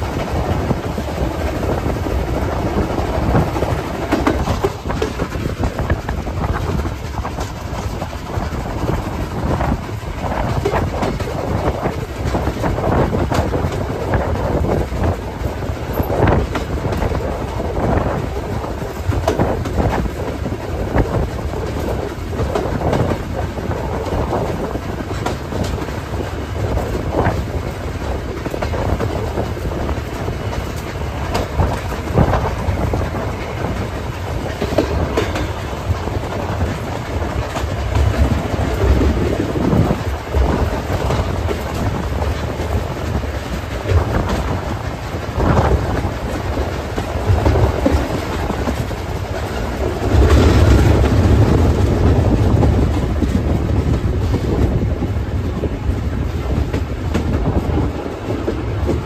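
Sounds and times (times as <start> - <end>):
train coaches rumbling: 0.0 - 59.0
wheels clacking over rail joints: 0.0 - 59.0.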